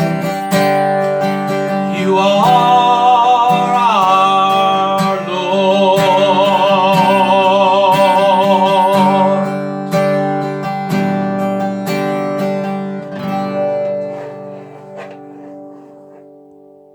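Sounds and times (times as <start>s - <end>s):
strummed acoustic guitar: 0.0s - 16.9s.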